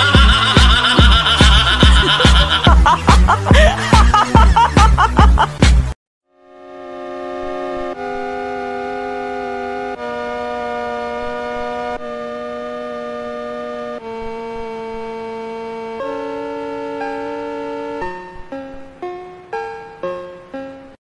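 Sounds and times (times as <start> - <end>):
music of held chords: 0.0 - 21.0.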